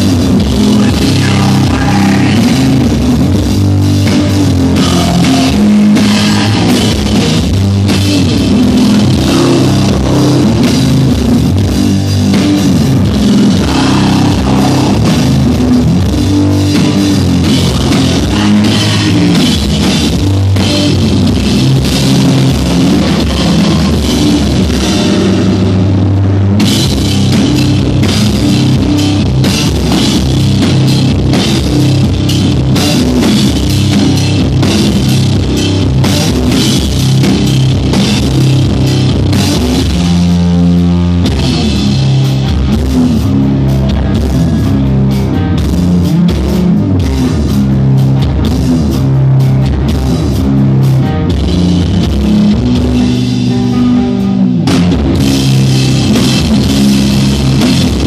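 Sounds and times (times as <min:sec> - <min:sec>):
distorted electric guitar: 0:00.0 - 0:58.0
drum kit and cymbals: 0:00.0 - 0:58.0.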